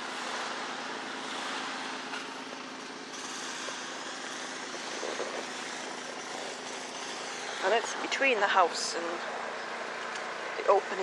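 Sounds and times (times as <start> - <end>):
snowblower engine running: 0.0 - 10.5.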